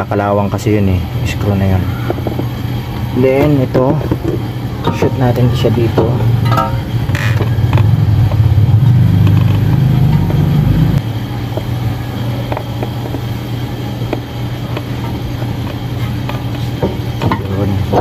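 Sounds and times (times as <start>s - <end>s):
engine running: 0.6s - 18.0s.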